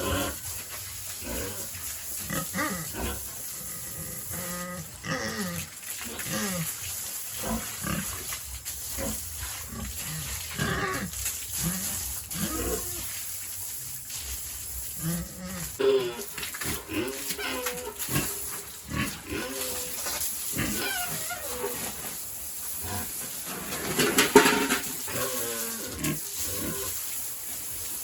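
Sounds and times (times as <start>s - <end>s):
pigs grunting and squealing: 0.0s - 0.6s, 1.2s - 13.2s, 14.9s - 22.0s, 22.8s - 27.0s.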